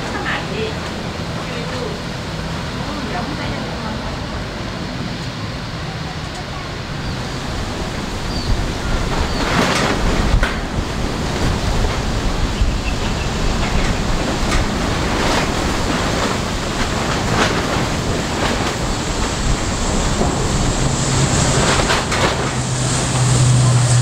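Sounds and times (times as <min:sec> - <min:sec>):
turboprop engines droning: 0:00.0 - 0:24.0
wind buffeting microphone: 0:00.0 - 0:24.0.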